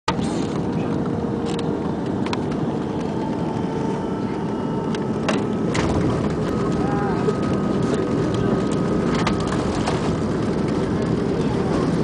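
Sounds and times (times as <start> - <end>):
jet engines: 0.1 - 12.0.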